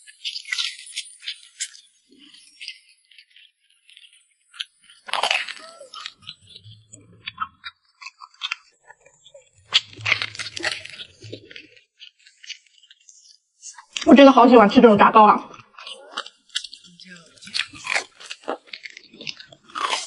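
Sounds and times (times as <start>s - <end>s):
chewing and crunching crispy food: 0.0s - 20.0s.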